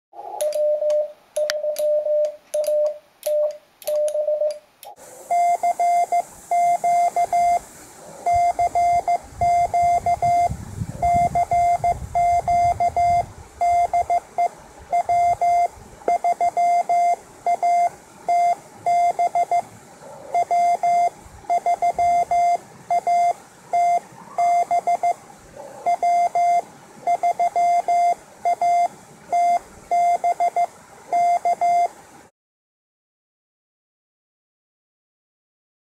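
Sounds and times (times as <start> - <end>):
morse code tone: 0.4 - 4.6, 5.3 - 7.6, 8.2 - 19.7, 20.3 - 25.2, 25.8 - 31.9.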